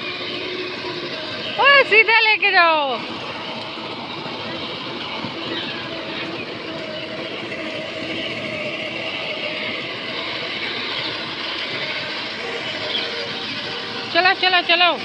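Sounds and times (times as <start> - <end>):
electric motor hum: 0.0 - 15.0
plastic wheels rumbling on paving: 0.0 - 15.0.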